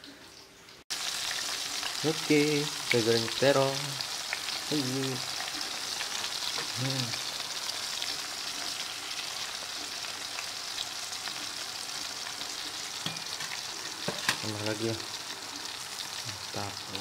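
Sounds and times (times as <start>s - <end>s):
eggplant sizzling in hot oil: 0.9s - 17.0s.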